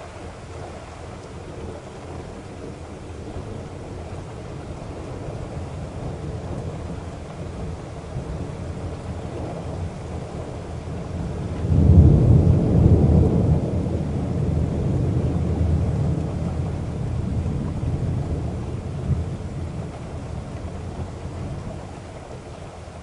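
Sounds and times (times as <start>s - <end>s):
car driving in rain rumble: 0.0s - 23.0s.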